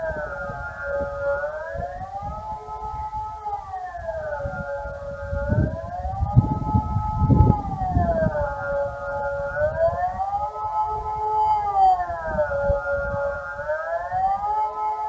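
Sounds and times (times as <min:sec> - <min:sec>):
wailing siren: 0:00.0 - 0:15.0.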